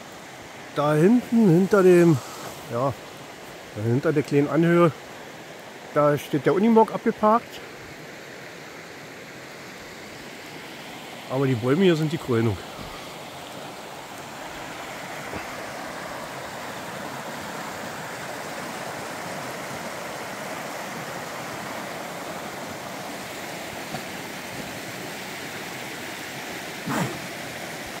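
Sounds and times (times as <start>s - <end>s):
creek flowing over stones: 0.0s - 28.0s.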